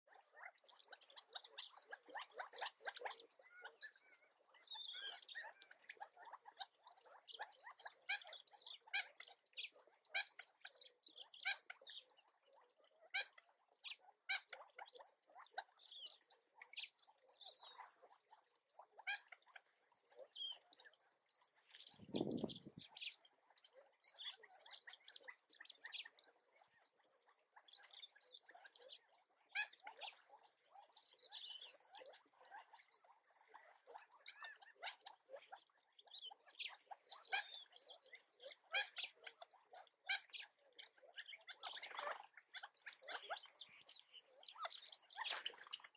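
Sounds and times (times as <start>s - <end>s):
quail chirping and clicking: 0.1s - 45.9s.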